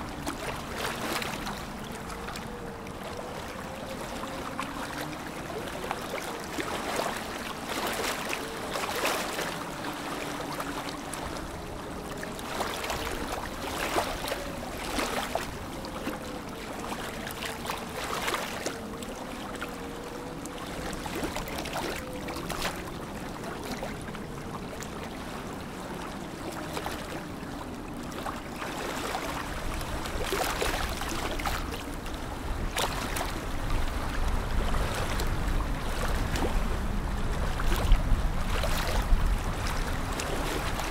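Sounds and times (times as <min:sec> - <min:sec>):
faint wavering hum: 0:00.0 - 0:40.9
lake water lapping on shore: 0:00.0 - 0:40.9.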